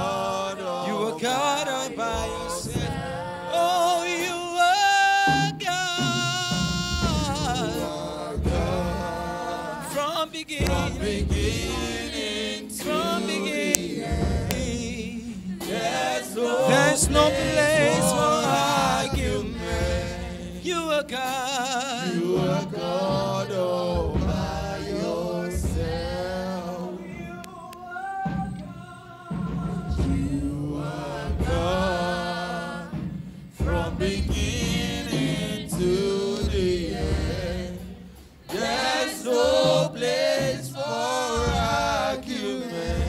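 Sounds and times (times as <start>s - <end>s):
backing singers: 0.0s - 43.0s
man singing gospel into microphone: 0.0s - 43.0s.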